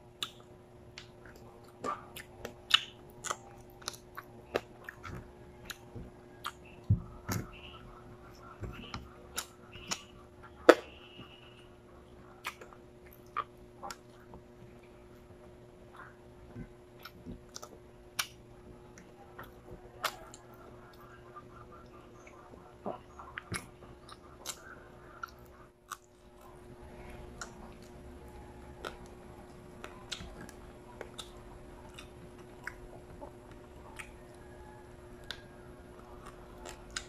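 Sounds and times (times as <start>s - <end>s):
steady low hum: 0.0s - 37.0s
chewing and biting: 0.1s - 10.9s, 12.2s - 21.2s, 21.8s - 37.0s.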